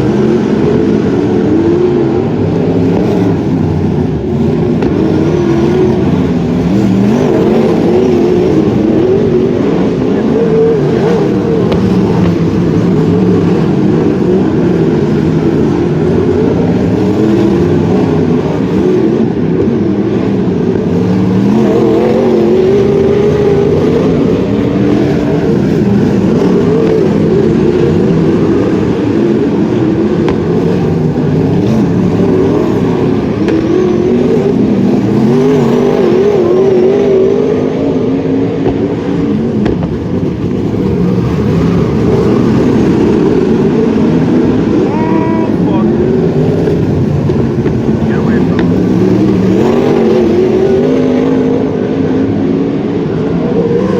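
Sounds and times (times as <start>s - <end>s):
racing car engines: 0.0s - 53.9s.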